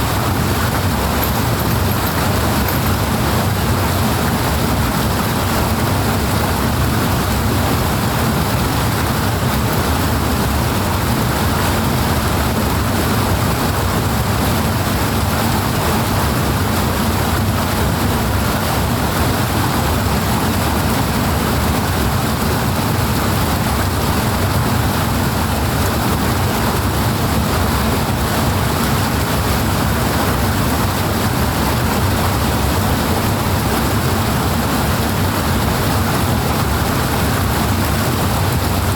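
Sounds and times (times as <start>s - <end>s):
rushing water with low rumble: 0.0s - 38.9s.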